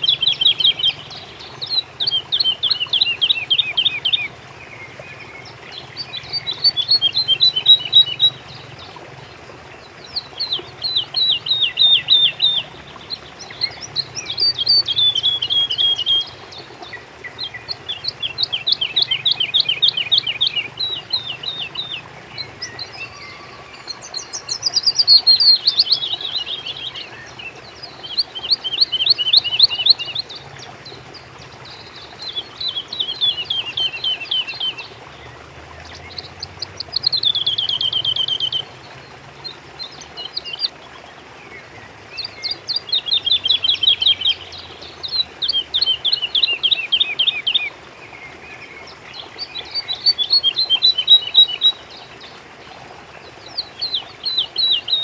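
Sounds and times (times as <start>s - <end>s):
songbird singing trilled phrases: 0.0s - 8.9s, 9.9s - 38.8s, 42.2s - 52.1s, 53.4s - 55.0s.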